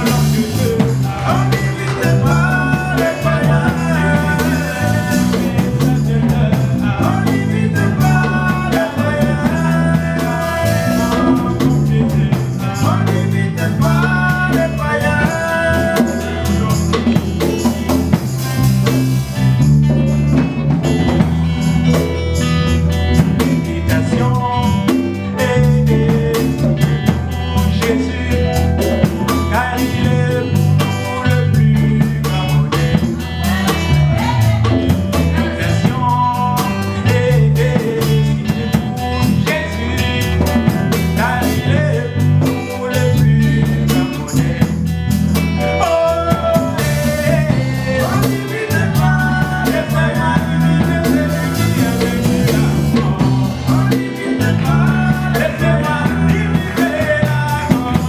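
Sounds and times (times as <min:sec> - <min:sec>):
bass guitar: 0:00.0 - 0:58.0
drums: 0:00.0 - 0:58.0
men singing together: 0:00.0 - 0:58.0.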